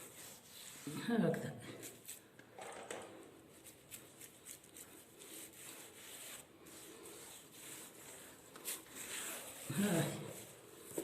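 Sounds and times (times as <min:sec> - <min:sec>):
hands rubbing dough: 0:00.0 - 0:02.3, 0:03.4 - 0:11.0.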